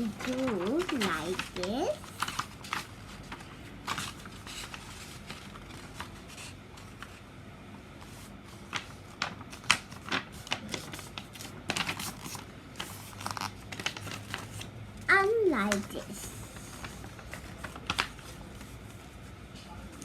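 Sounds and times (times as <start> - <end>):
paper being folded and creased: 0.0 - 7.2, 8.0 - 14.7, 15.4 - 19.1.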